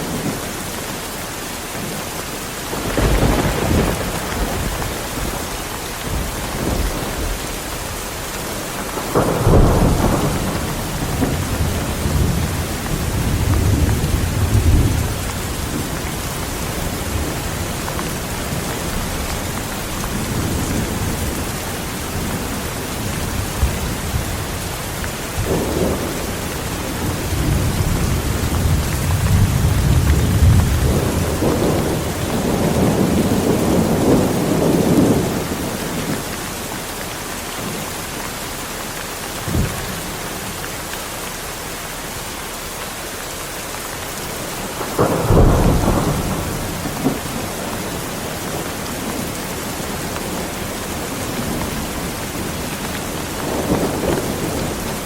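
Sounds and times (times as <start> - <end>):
heavy rain falling: 0.0 - 55.0
thunder rumbling: 2.6 - 36.4, 44.6 - 55.0.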